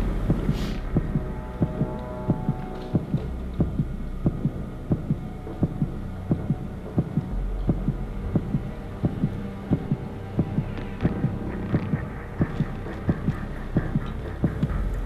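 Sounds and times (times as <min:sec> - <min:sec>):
heartbeat thumps: 0:00.0 - 0:15.0
low drone: 0:00.0 - 0:15.0.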